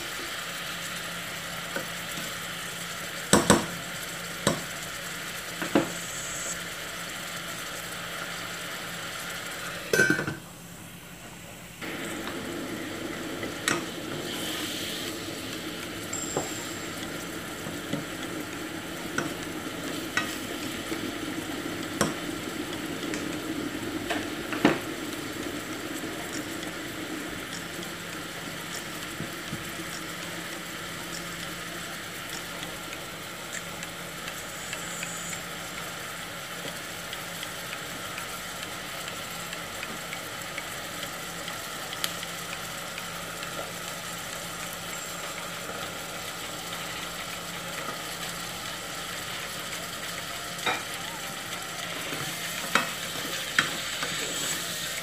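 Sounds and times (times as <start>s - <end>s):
chicken sizzling in a pot: 0.0s - 55.0s.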